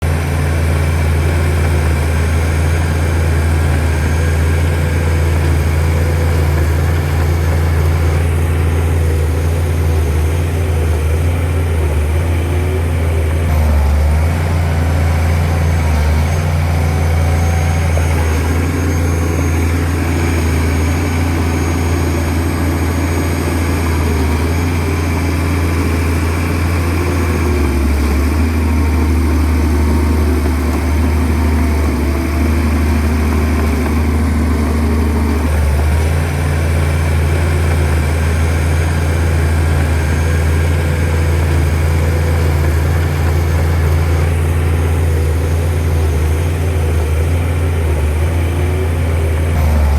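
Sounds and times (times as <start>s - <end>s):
bulldozer diesel engine humming: 0.0s - 49.9s.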